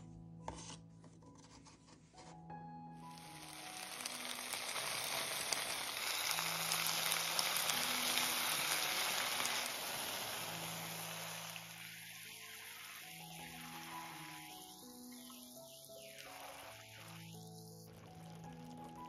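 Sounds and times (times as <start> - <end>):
food sizzling in oil: 3.0 - 19.0.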